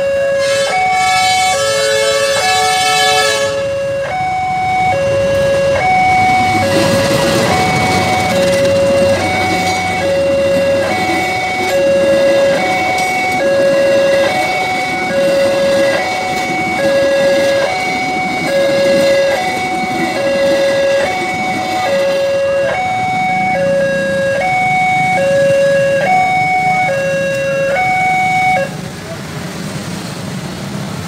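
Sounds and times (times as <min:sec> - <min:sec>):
level crossing two-tone alarm: 0:00.0 - 0:28.8
vehicle engine rumble: 0:04.0 - 0:31.0.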